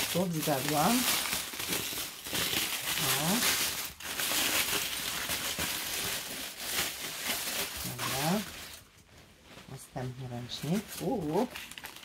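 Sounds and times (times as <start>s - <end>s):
foil and paper crinkling: 0.0s - 12.0s.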